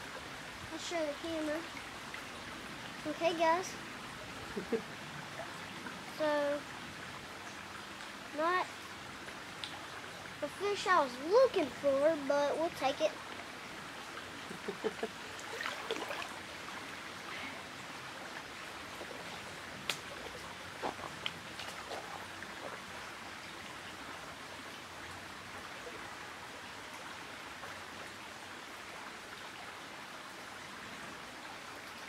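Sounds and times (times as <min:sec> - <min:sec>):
creek water rushing: 0:00.0 - 0:32.0.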